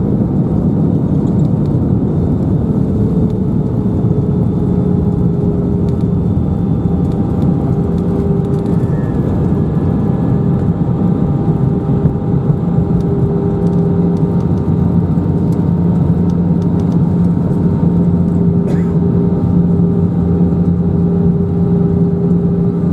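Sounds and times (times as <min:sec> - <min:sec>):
jet cabin engine drone: 0:00.0 - 0:22.9.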